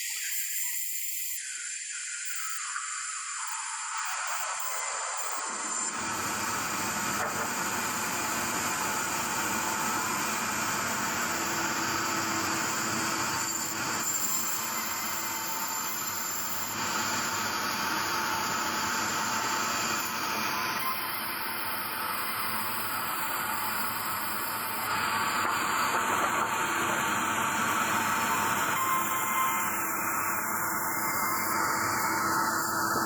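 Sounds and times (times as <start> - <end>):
sawmill machinery running: 5.5 - 33.0.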